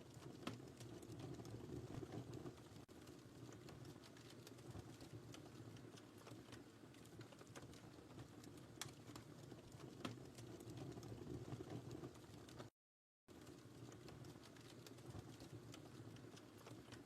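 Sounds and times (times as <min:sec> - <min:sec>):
wood fire crackling: 0:00.0 - 0:12.7, 0:13.3 - 0:17.0.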